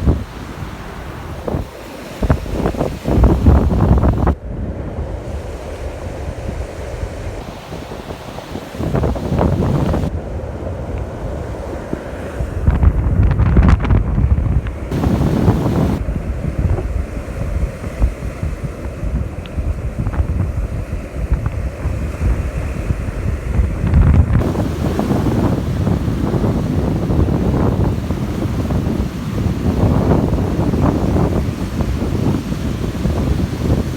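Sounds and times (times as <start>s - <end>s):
surf washing on beach: 0.0s - 33.9s
wind buffeting microphone: 0.0s - 33.9s.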